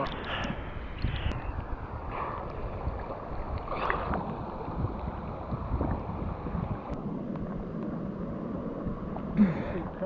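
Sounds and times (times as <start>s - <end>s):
river water sloshing and lapping: 0.0s - 10.0s.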